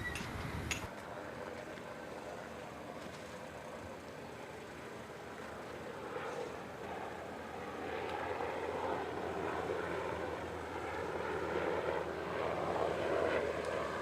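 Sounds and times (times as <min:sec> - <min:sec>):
engine drone with low hum: 0:00.0 - 0:14.0.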